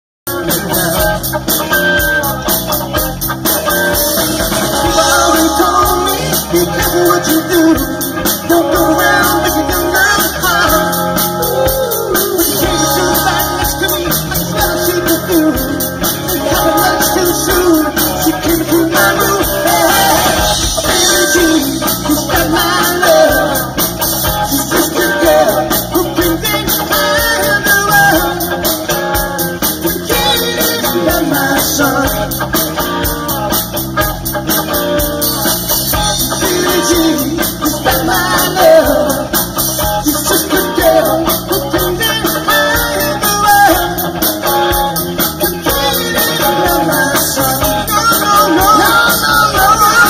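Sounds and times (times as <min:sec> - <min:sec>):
bass guitar: 0:00.2 - 0:50.0
drum kit: 0:00.3 - 0:50.0
electric guitar: 0:00.3 - 0:50.0.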